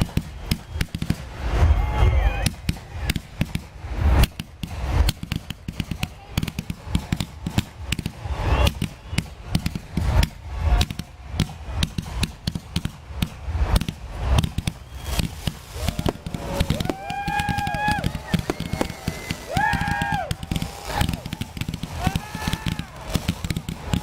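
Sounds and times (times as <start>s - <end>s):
deep firework booms: 0.0s - 24.0s
fireworks bangs and crackling: 0.0s - 24.0s.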